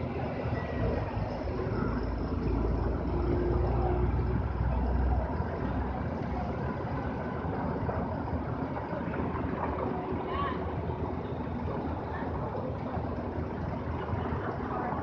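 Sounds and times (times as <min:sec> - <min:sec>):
passing cars rumbling: 0:00.0 - 0:15.0.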